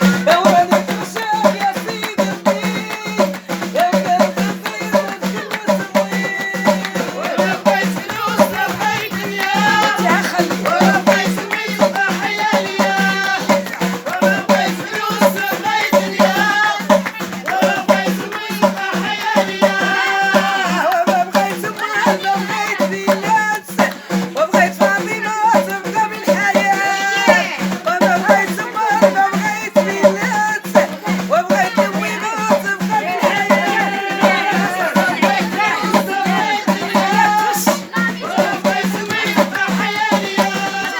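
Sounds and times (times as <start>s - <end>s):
person singing: 0.0s - 40.9s
shaken rattle percussion: 0.0s - 40.9s.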